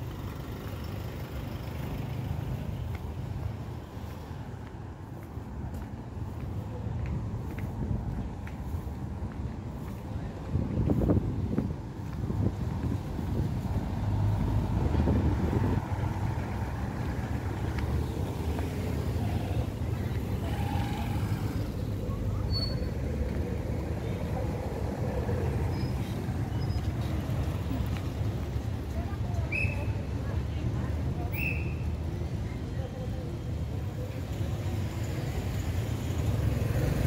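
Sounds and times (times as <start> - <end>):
passing traffic rumble: 0.0 - 37.0.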